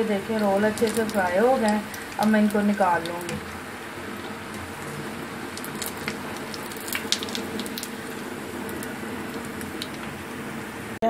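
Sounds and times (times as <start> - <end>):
deep-frying in hot oil sizzle: 0.0 - 11.0.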